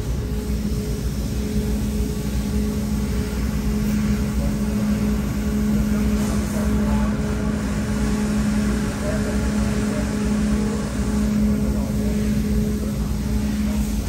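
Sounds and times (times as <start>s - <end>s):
machine hum with low rumble: 0.0s - 14.0s.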